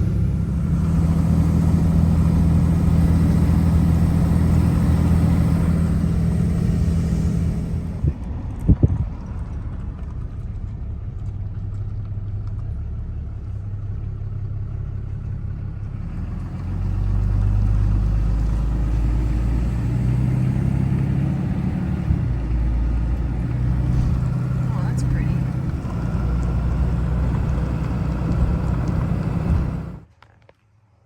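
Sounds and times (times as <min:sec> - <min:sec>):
vehicle engine and road noise: 0:00.0 - 0:30.4.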